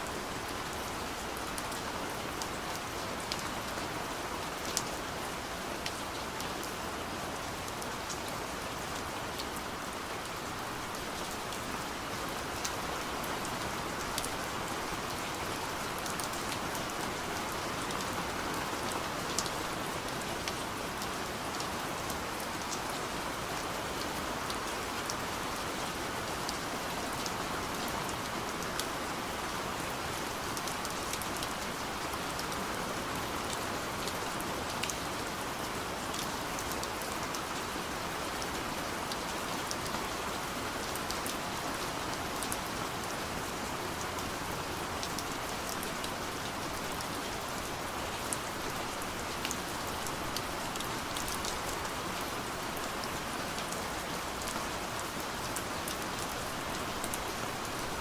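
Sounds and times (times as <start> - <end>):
soft rain on a window: 0.0 - 58.0.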